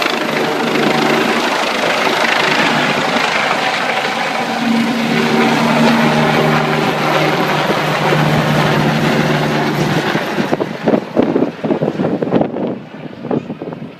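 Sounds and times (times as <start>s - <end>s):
steady pitched hum: 0.0s - 11.5s
helicopter rotor noise: 0.0s - 13.9s
wind buffeting microphone: 0.0s - 13.9s.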